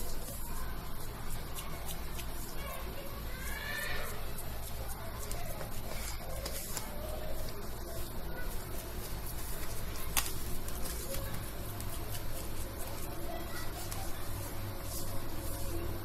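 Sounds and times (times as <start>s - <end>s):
hands patting dough in tin: 0.0s - 16.0s
steady low hum: 0.0s - 16.0s.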